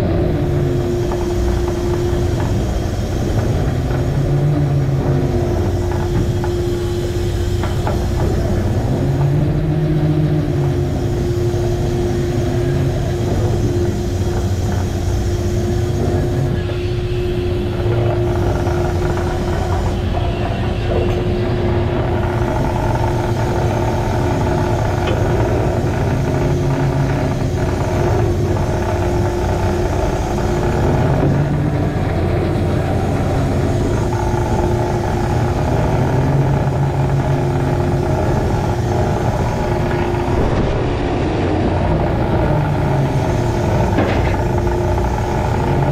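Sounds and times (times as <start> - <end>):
boat engine rumbling: 0.0 - 45.9
sea washing along hull: 0.0 - 45.9
steady machine whine: 0.0 - 45.9.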